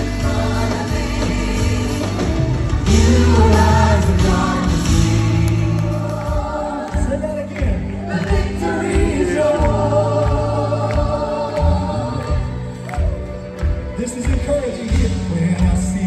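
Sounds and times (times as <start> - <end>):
choir singing: 0.0 - 12.9
band with steady bass line: 0.0 - 16.0.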